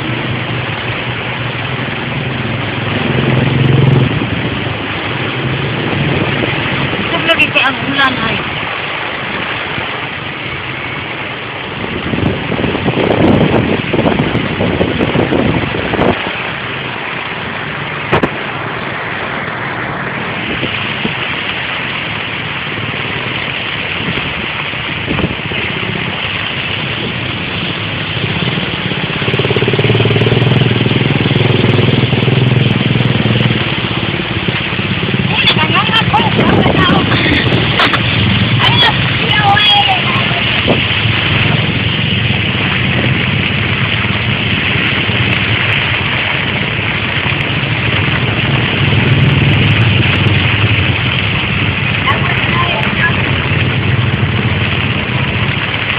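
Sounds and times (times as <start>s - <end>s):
low engine hum: 0.0s - 7.6s, 12.2s - 55.9s
car tyres hissing in rain: 0.0s - 55.9s.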